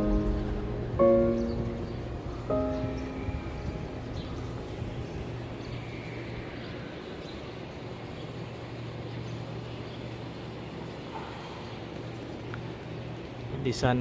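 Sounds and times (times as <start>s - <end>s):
city background hum: 0.0s - 14.0s.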